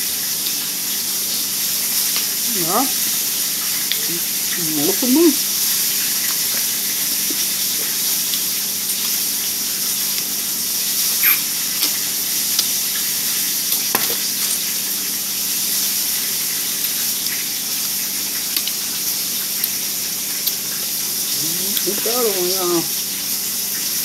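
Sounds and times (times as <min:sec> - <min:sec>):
food frying sizzle: 0:00.0 - 0:24.0.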